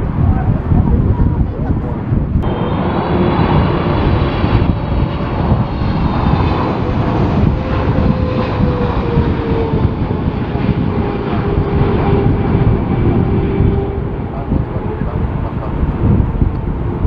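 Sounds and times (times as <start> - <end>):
jet engines passing close: 0.0 - 17.0.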